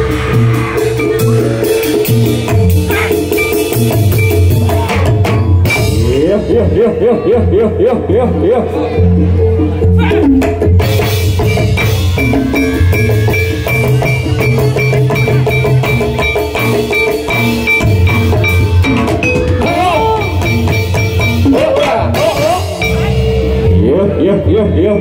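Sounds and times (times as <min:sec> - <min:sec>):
metallophones ringing: 0:00.0 - 0:07.4, 0:08.6 - 0:25.0
drums: 0:00.0 - 0:25.0.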